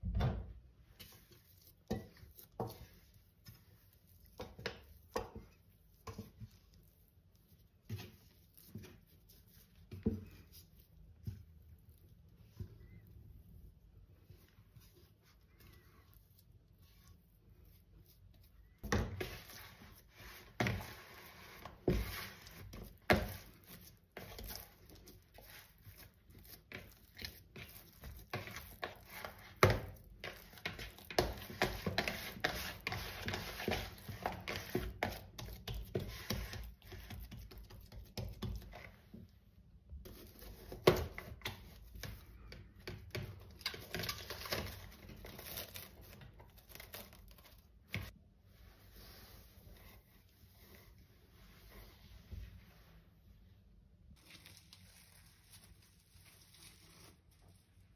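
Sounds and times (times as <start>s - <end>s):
soft handling of dough: 0.0s - 57.9s.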